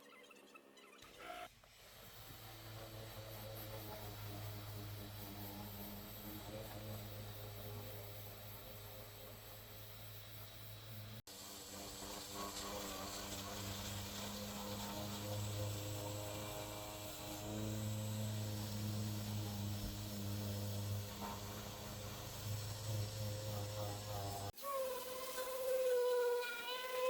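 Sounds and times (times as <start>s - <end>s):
low electrical hum: 1.9s - 24.5s.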